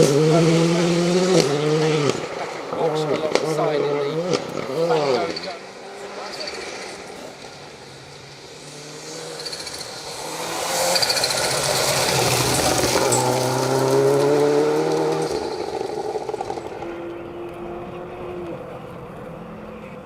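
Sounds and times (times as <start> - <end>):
rally car engine at full throttle: 0.0 - 20.0.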